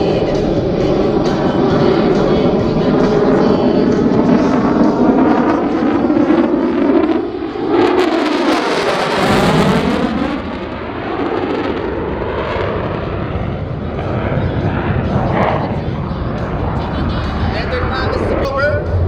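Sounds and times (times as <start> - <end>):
jet flying past: 0.0 - 19.0.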